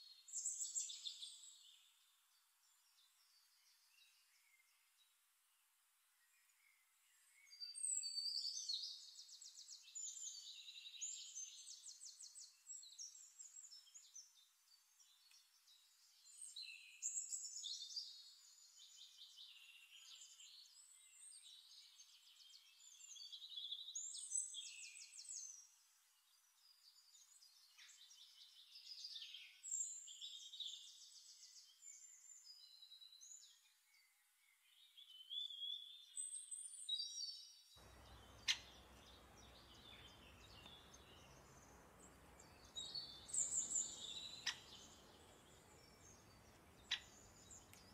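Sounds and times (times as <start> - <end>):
songbird trills and chirps: 0.0 - 5.2, 6.2 - 47.9.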